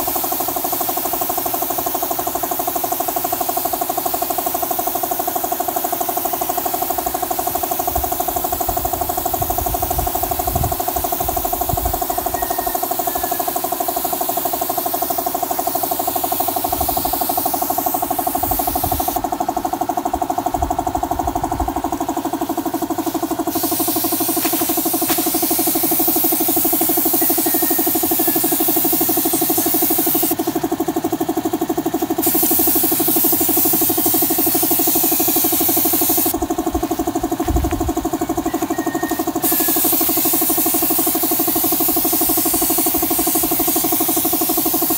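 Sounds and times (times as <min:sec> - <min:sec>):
spray gun hissing: 0:00.0 - 0:30.7, 0:32.0 - 0:38.2, 0:39.1 - 0:44.9
air compressor running: 0:00.0 - 0:44.9.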